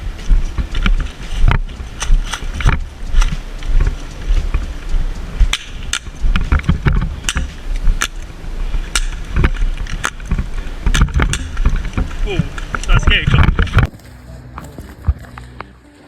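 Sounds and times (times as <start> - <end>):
wind rumble on microphone: 0.0 - 15.8.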